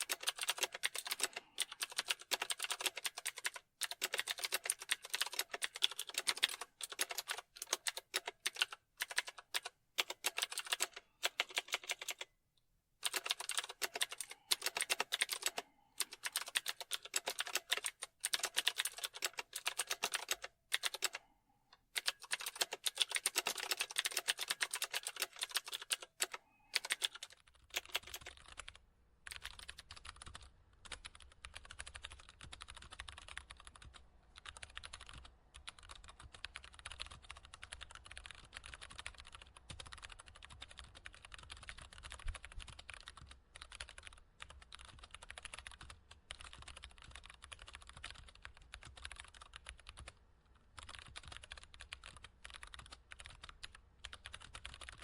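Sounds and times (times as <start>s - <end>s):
typing on a keyboard: 0.0s - 12.3s, 13.0s - 55.0s.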